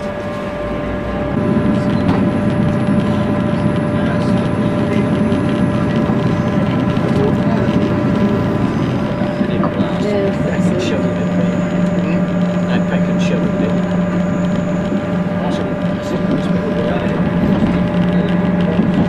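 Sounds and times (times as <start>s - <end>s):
steady whine: 0.0s - 19.0s
train engine and wheels rumbling: 0.0s - 19.0s.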